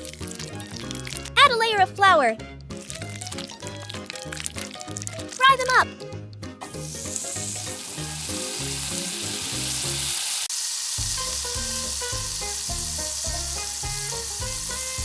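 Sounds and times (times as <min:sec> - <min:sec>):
hot oil sizzling: 0:00.0 - 0:01.4, 0:02.7 - 0:05.6, 0:06.6 - 0:15.0.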